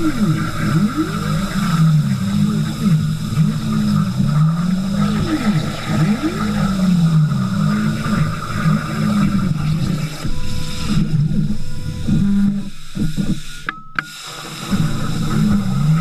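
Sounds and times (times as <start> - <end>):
drive motors whining: 0.0 - 14.0
plasma arc hissing: 0.0 - 16.0.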